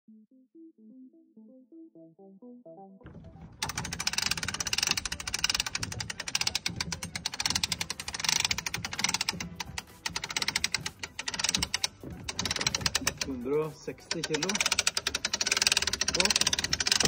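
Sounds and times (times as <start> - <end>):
winch ratcheting clicks: 3.1 - 17.0.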